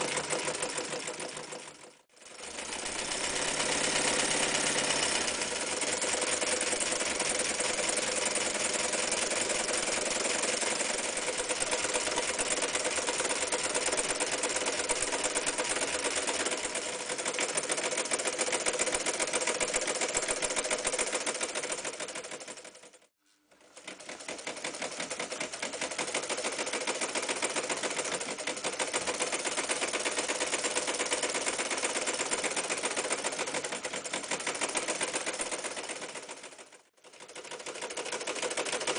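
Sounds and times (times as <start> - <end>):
electric sewing machine stitching: 0.0 - 38.9.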